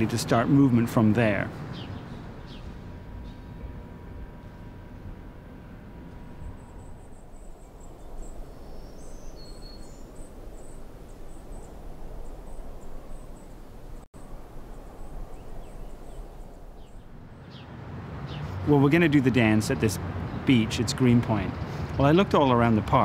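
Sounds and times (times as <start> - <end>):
low rushing noise: 0.0 - 20.7.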